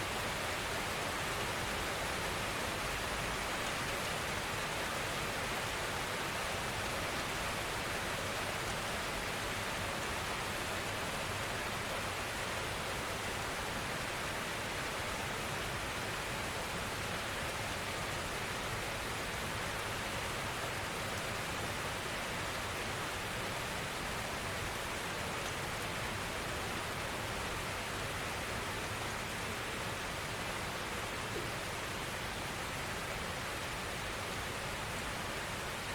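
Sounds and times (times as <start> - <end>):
gentle rain hiss: 0.0 - 35.9.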